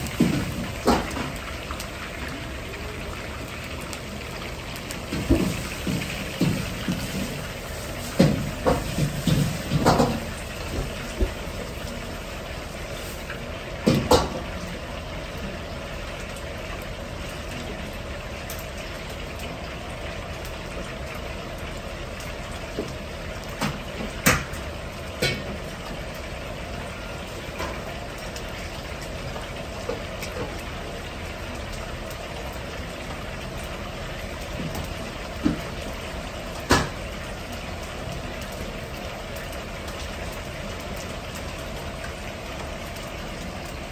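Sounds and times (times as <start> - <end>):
chicken deep-frying in oil: 0.0 - 43.9.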